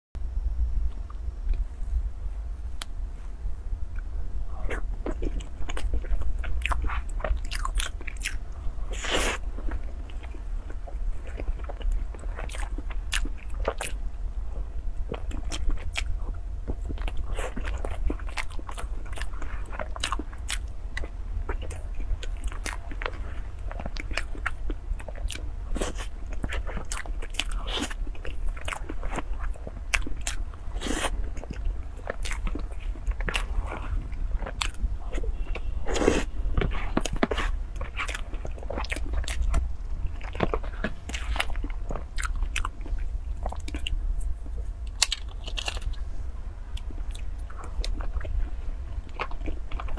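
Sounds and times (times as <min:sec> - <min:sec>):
steady low hum: 0:00.2 - 0:49.9
chewing cake: 0:03.9 - 0:46.1, 0:46.7 - 0:49.9.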